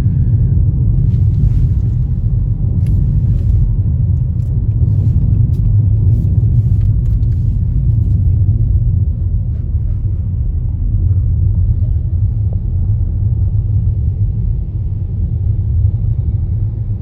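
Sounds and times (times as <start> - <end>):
car rumble from inside cabin: 0.0 - 17.0.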